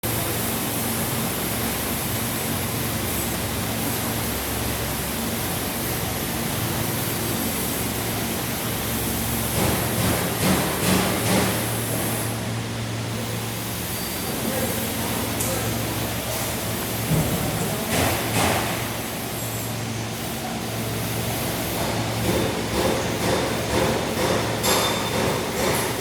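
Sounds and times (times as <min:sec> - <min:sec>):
air rushing from blowers: 0:00.0 - 0:26.0.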